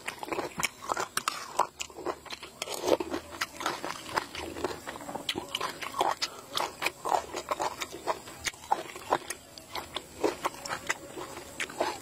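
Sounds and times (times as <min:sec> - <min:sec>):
person chewing with wet mouth clicks: 0:00.0 - 0:12.0.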